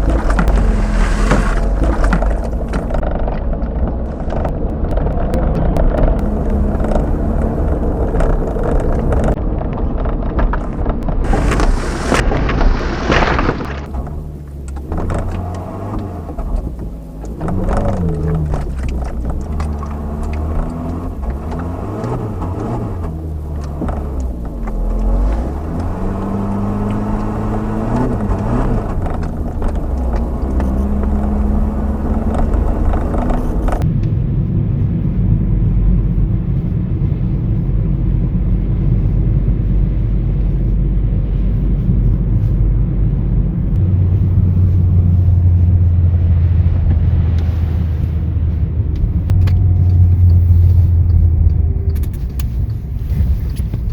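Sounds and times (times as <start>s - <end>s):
car engine revving with gear changes: 0.0s - 34.3s, 35.0s - 53.9s
low engine and road rumble: 0.0s - 53.9s.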